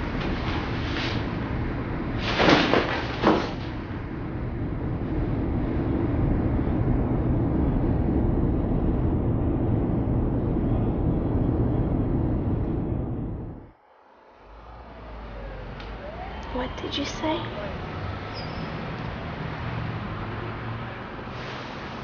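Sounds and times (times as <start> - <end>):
low rumbling drone: 0.0 - 21.5.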